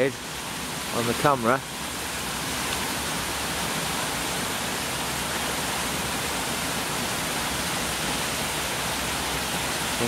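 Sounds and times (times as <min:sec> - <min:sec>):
wet outdoor rushing hiss: 0:00.0 - 0:10.0.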